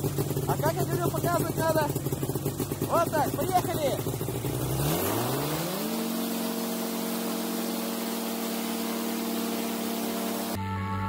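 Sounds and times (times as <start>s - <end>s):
engine and propeller revving up: 0.0s - 10.6s.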